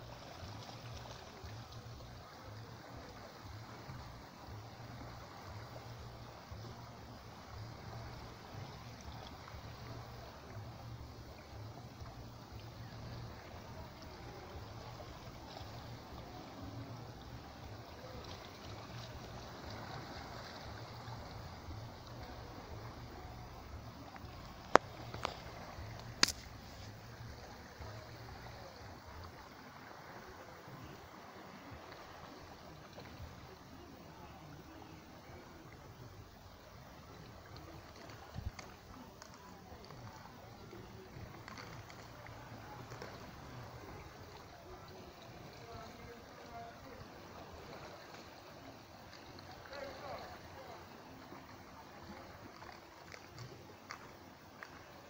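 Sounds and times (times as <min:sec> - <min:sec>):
small waves lapping against rocks: 0:00.0 - 0:55.0.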